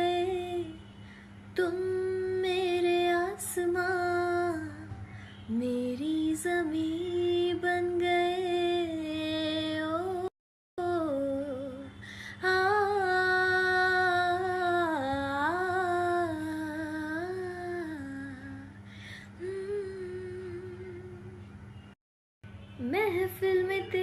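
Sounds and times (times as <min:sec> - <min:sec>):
woman singing wordless melody: 0:00.0 - 0:21.6, 0:22.8 - 0:24.0.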